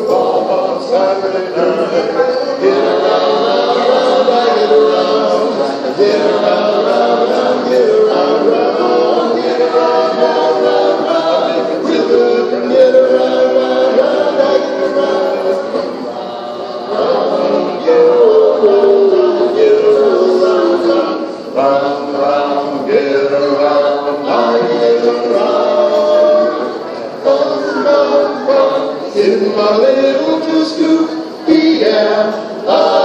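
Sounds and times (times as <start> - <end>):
male quartet singing in harmony: 0.0 - 33.0.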